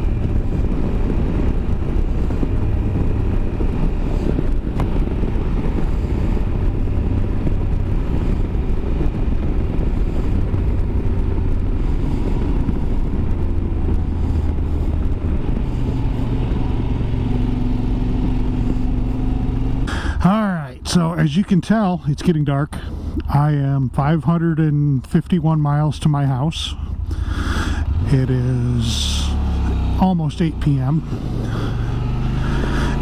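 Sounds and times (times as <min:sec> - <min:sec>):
motorcycle engine cruising: 0:00.0 - 0:24.6, 0:26.2 - 0:33.0
wind and road noise: 0:00.0 - 0:33.0.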